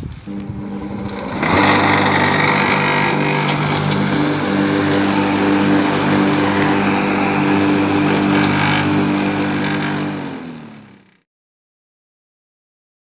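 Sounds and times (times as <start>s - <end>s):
electric lawn mower running: 0.1s - 11.2s.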